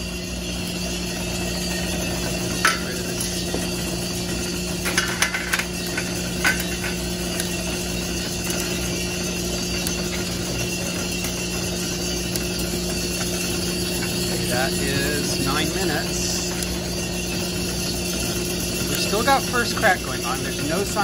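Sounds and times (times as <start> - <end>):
coffee roaster humming: 0.0 - 21.0
coffee beans popping: 2.4 - 19.8.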